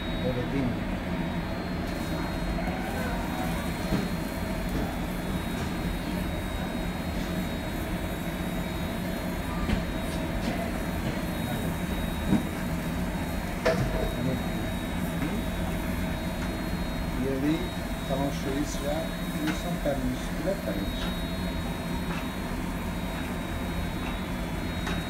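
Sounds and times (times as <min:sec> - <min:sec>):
rotisserie grill humming: 0:00.0 - 0:25.0.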